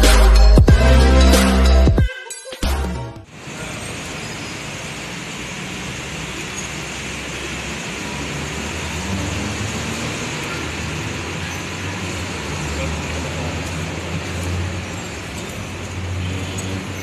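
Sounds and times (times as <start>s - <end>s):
even traffic hiss: 3.3s - 17.0s.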